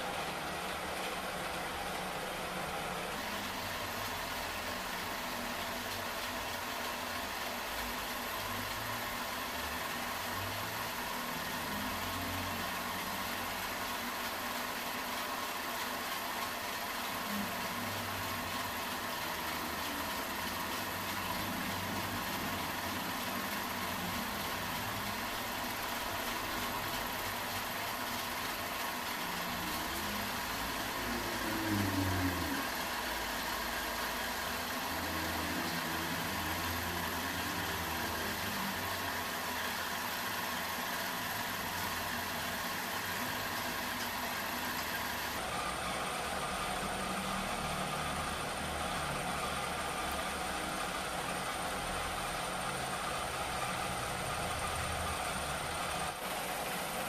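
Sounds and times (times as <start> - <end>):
metal lathe hum with high whine: 0.0 - 57.0.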